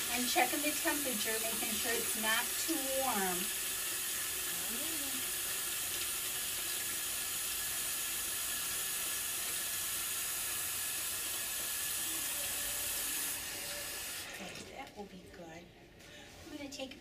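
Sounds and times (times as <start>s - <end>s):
tap water running into basin: 0.0s - 14.9s.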